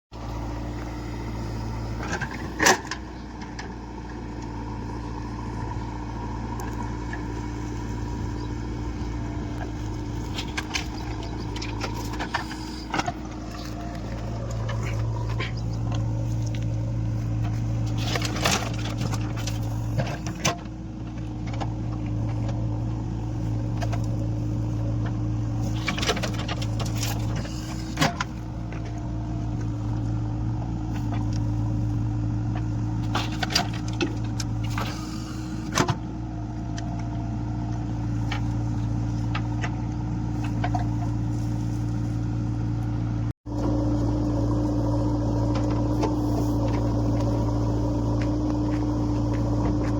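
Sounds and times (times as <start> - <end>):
diesel engine running: 0.1 - 49.9.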